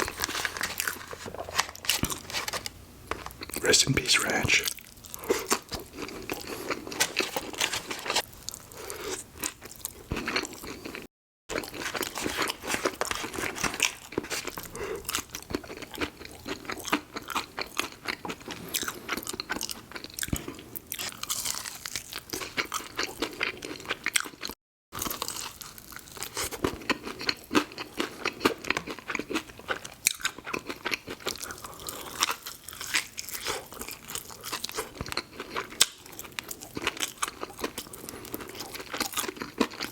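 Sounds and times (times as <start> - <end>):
person chewing crispy food: 0.0 - 39.9.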